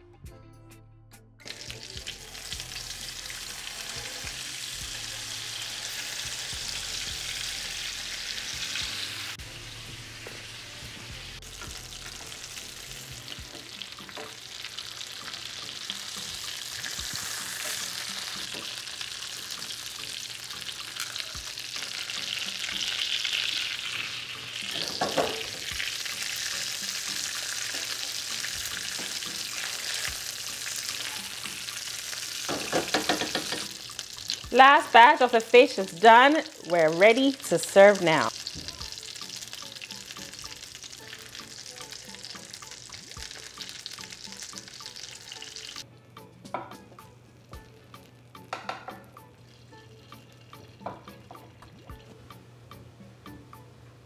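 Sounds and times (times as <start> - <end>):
fish sizzling in frying pan: 1.4 - 45.8.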